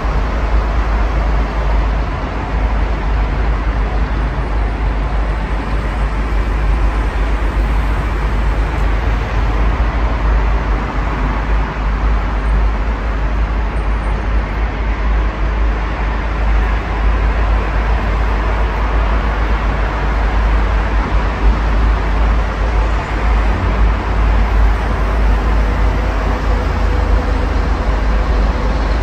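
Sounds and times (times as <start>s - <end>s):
city road traffic hum: 0.0s - 29.0s.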